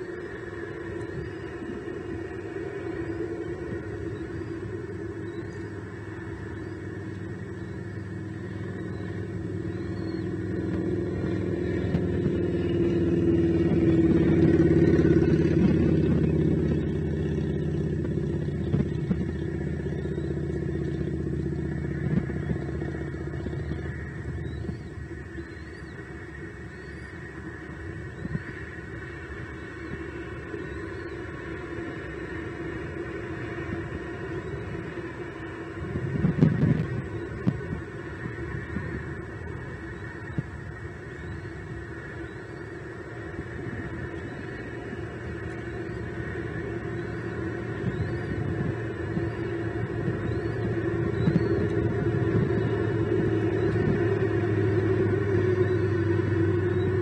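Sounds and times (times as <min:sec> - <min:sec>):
background rumble and hiss: 0:00.0 - 0:57.0
faint hum: 0:00.0 - 0:57.0.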